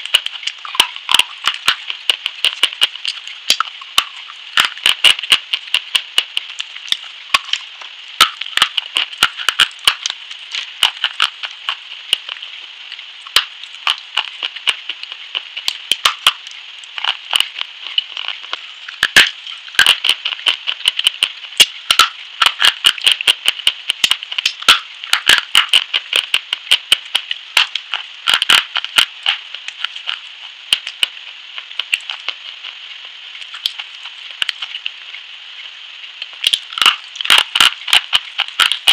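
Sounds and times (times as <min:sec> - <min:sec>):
crunching while chewing: 0:00.0 - 0:38.9
steady hiss: 0:00.0 - 0:38.9.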